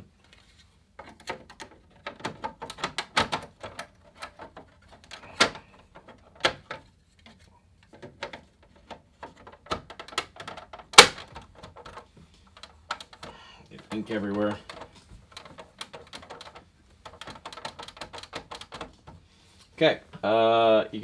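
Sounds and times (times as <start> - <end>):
typewriter parts clicking and clattering: 1.0 - 6.9, 7.8 - 19.2.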